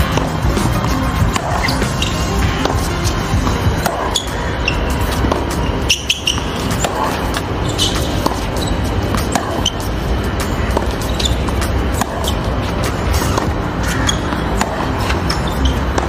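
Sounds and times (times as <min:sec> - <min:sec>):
steady low rumble: 0:00.0 - 0:15.2
racket striking tennis ball: 0:00.0 - 0:16.0
tennis ball bouncing: 0:00.0 - 0:16.0
sneaker squeaks: 0:00.2 - 0:16.0.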